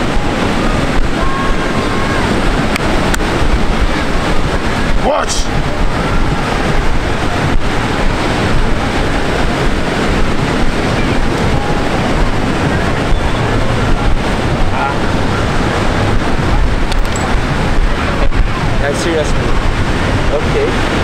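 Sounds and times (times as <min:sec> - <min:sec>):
surf breaking on a beach: 0:00.0 - 0:21.0
wind buffeting microphone: 0:00.0 - 0:21.0.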